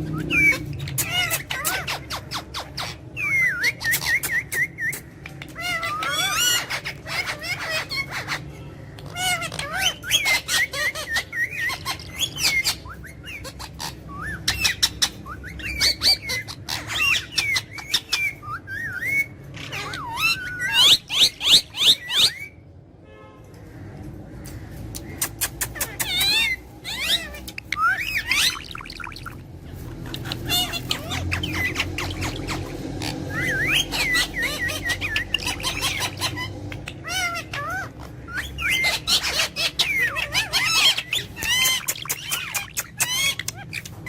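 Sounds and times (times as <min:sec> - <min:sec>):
parrot whistles and squawks: 0:00.0 - 0:22.6, 0:25.0 - 0:44.0.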